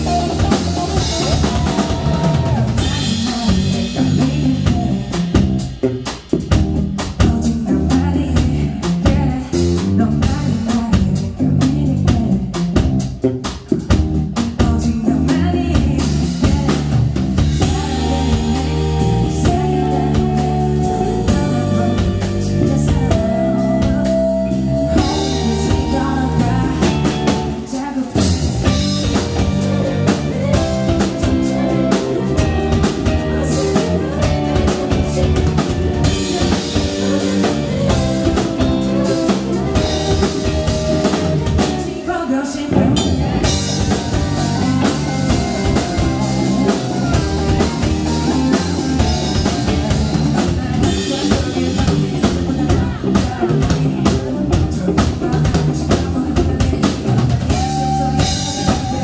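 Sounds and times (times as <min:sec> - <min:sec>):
person singing: 0:00.0 - 0:06.0, 0:07.0 - 0:12.7, 0:14.4 - 0:59.0
drum kit: 0:00.0 - 0:59.0
guitar: 0:00.0 - 0:59.0.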